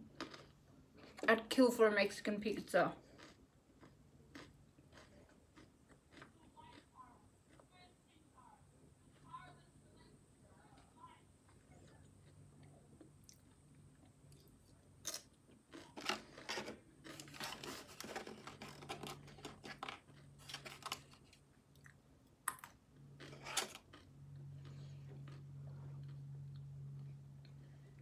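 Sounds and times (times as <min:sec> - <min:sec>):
person chewing crunchy chips: 0:00.0 - 0:01.3, 0:02.9 - 0:07.7, 0:11.4 - 0:28.0
low steady hum: 0:00.0 - 0:28.0.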